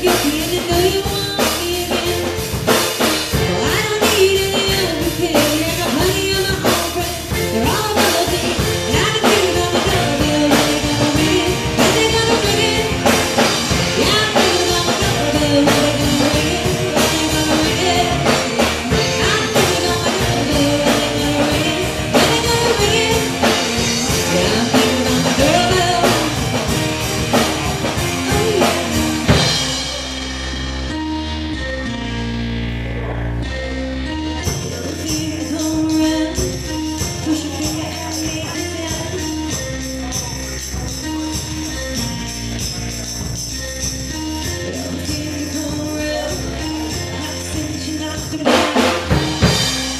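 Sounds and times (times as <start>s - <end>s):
drum kit: 0.0s - 49.9s
guitar: 0.0s - 49.9s
person singing: 3.3s - 30.3s, 32.9s - 43.1s, 44.4s - 49.9s.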